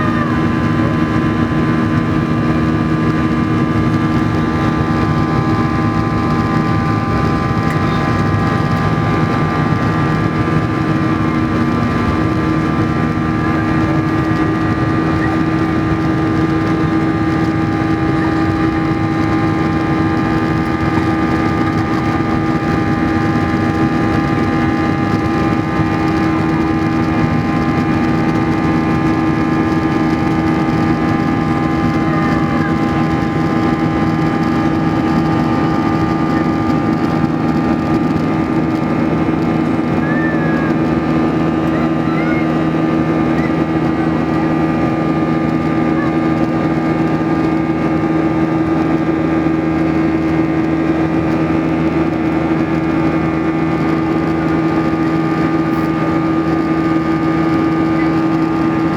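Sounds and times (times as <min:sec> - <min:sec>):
airplane cabin engine drone: 0:00.0 - 0:58.9.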